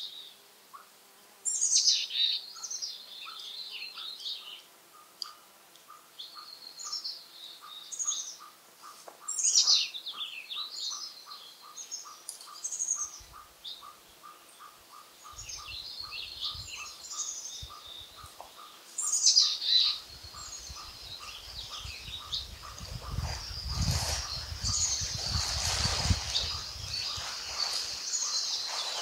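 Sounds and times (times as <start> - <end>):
songbirds singing: 1.5 - 29.0.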